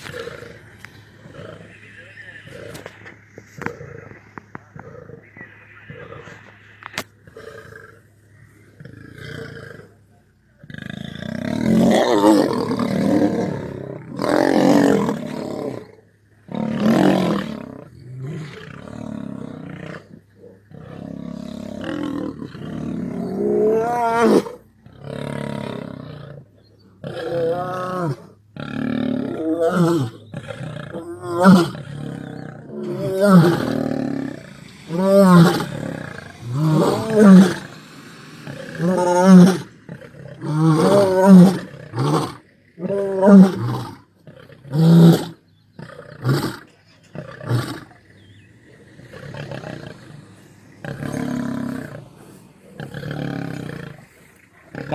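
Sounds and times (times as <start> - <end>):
lions roaring: 0.0 - 6.4, 10.6 - 54.9.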